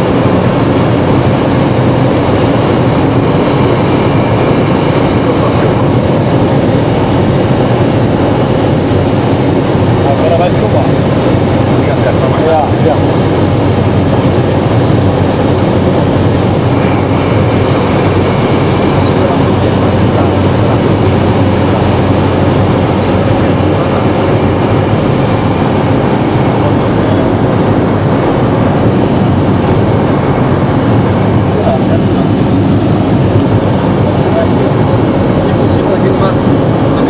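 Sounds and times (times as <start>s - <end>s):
propeller plane engine drone: 0.0s - 37.0s.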